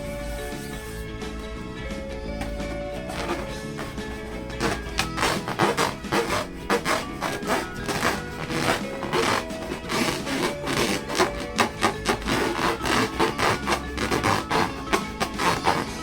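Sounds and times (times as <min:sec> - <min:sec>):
balloons rubbing and squeaking: 0:02.4 - 0:16.0.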